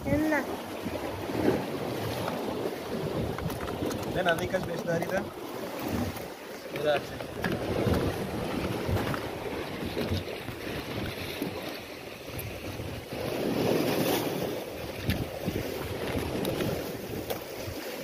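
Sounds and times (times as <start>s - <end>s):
wind buffeting microphone: 0.0s - 6.2s, 6.8s - 17.9s
sea washing against rocks: 0.0s - 18.0s.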